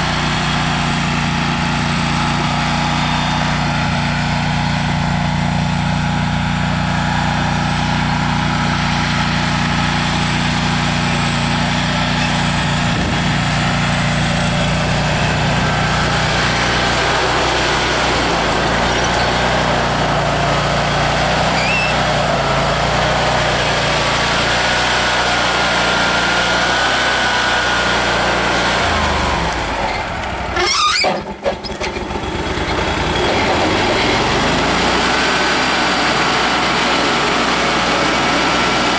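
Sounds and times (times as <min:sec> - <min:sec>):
gas engine running: 0:00.0 - 0:38.9.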